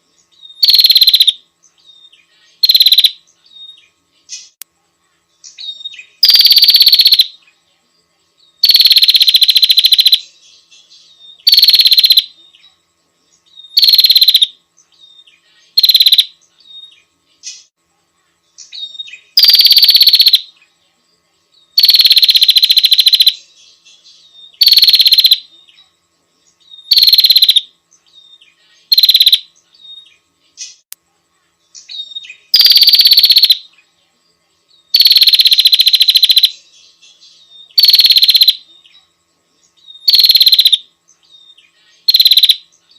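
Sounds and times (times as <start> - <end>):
bird buzzy trills: 0.0 - 4.6, 5.2 - 7.7, 8.3 - 20.8, 21.5 - 42.9
soft bird chirps: 0.0 - 42.9.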